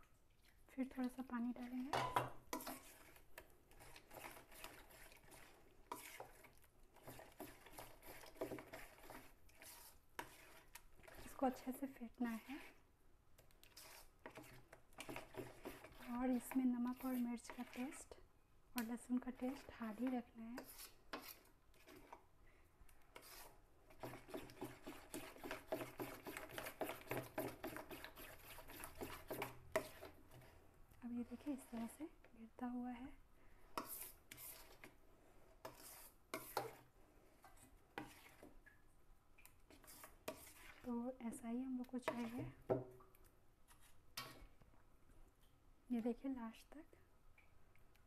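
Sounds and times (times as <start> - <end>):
spoon beating batter: 0.8 - 22.3, 22.9 - 30.6, 33.7 - 38.8, 39.4 - 44.6.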